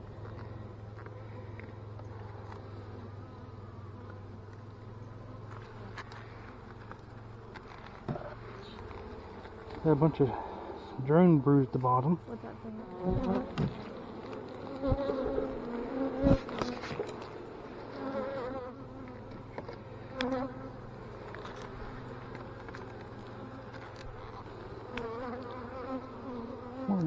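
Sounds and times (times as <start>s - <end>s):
honey bees buzzing: 0.0s - 27.0s.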